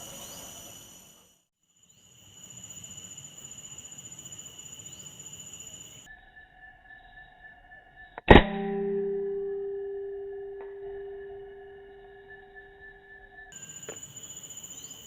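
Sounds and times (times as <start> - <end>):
insects chirring: 0.0 - 15.0
lower insect tones: 0.0 - 15.0.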